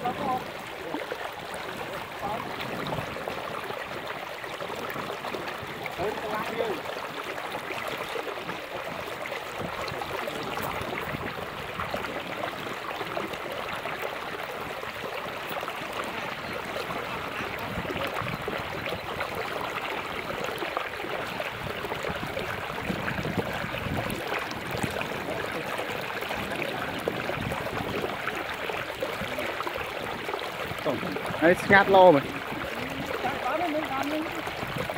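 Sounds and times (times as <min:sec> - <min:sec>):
water trickling off fishing net: 0:00.0 - 0:34.9.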